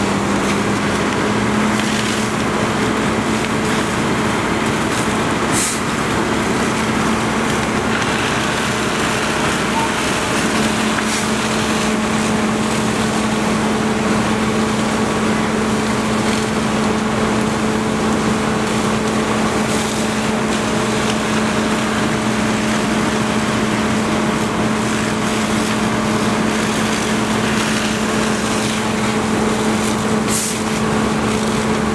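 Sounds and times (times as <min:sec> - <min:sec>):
pump engine humming: 0:00.0 - 0:31.9.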